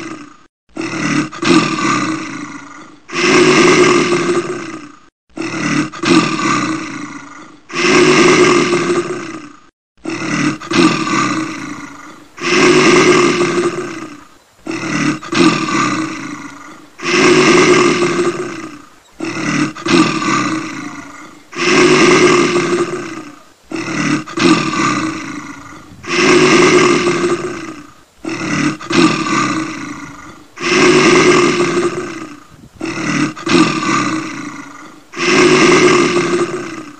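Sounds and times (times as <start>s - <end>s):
large animal roaring: 0.0s - 36.9s.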